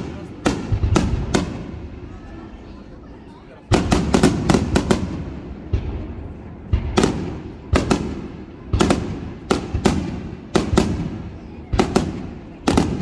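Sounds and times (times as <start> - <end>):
echoing rumble: 0.0 - 13.0
fireworks bursting with bangs: 0.0 - 13.0.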